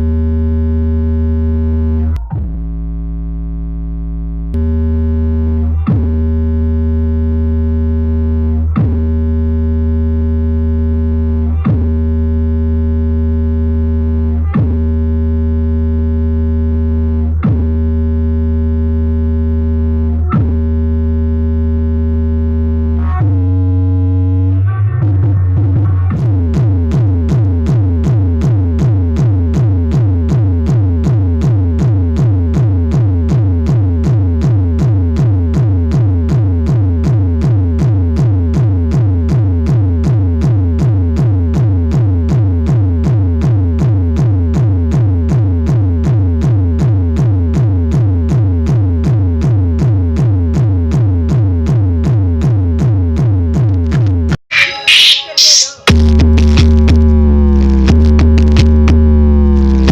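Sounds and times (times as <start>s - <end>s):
electronic dance music with deep bass: 4.5s - 18.6s, 19.5s - 59.9s.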